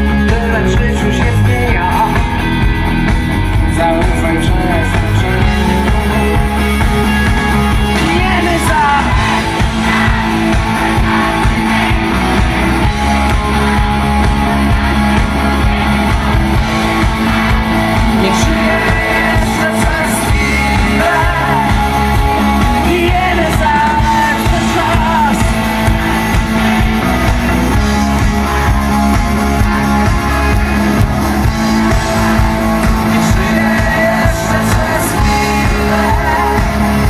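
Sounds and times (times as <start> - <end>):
person singing: 0.0 - 2.6, 3.6 - 37.0
electric guitars: 0.0 - 37.0.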